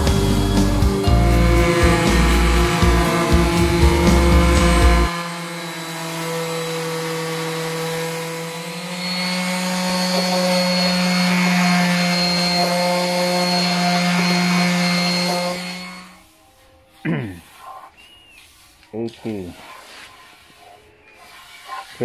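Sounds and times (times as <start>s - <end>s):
orbital sander on wood: 0.0s - 22.0s.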